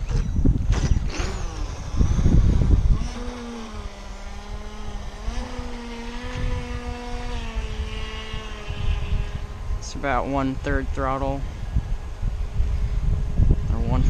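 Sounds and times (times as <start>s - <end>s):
electric motor whining: 0.0s - 13.8s
low rumble: 0.0s - 14.0s.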